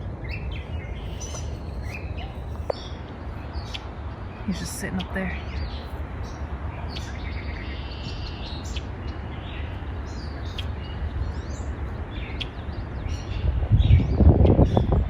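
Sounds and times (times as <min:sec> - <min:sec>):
songbirds chirping: 0:00.0 - 0:15.0
wind rumble on microphone: 0:00.0 - 0:15.0.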